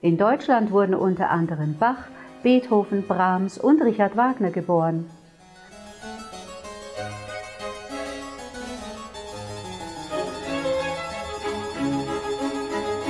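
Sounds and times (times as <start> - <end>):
classical-style keyboard music: 0.0 - 13.0.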